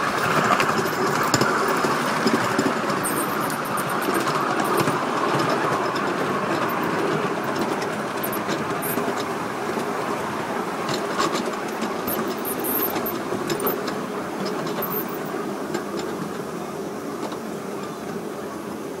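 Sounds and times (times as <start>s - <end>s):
model steam locomotive rumbling: 0.0s - 19.0s
wheels clicking on rails: 0.0s - 19.0s.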